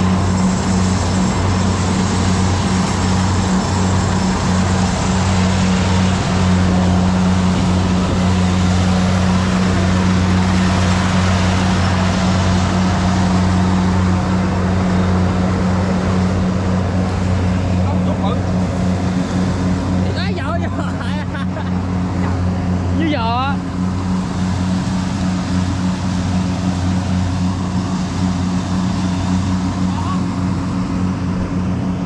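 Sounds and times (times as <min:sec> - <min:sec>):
combine harvester engine droning: 0:00.0 - 0:32.0.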